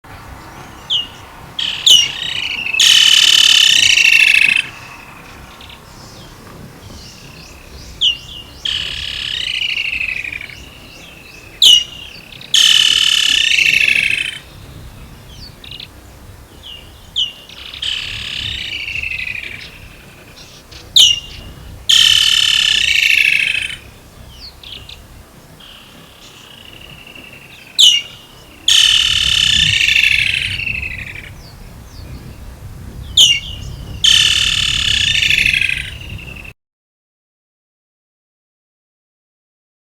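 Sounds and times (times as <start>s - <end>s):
kingfisher calling with trills: 0.4s - 36.5s.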